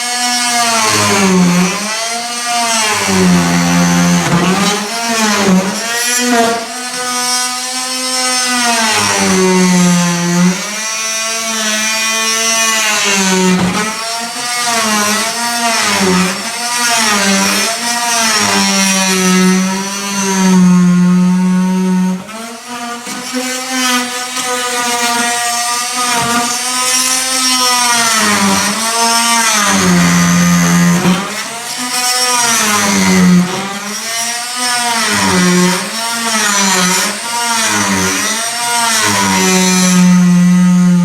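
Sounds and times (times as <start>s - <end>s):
power tool cutting wood: 0.0s - 41.0s.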